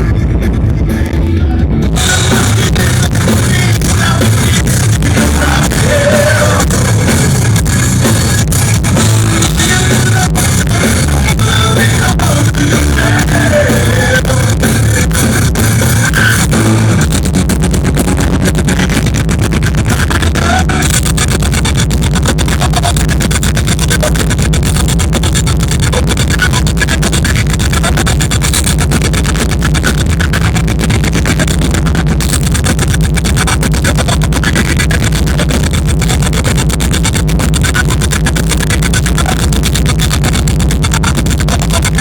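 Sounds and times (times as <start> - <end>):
metal band playing live: 0.0 - 42.0.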